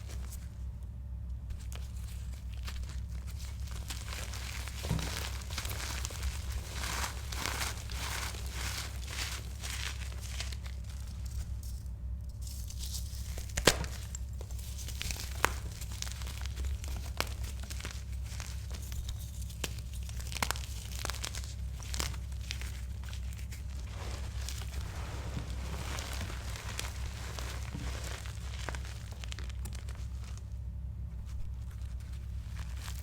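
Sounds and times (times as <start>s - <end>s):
chalk being crushed: 1.8s - 11.8s, 12.6s - 30.5s.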